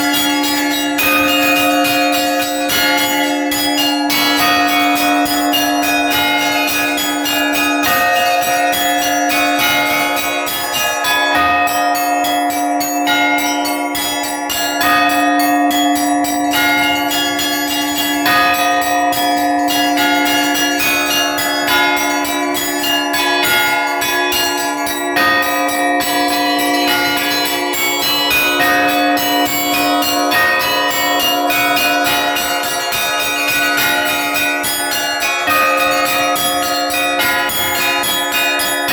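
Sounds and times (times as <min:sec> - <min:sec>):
large bell ringing: 0:00.0 - 0:38.9.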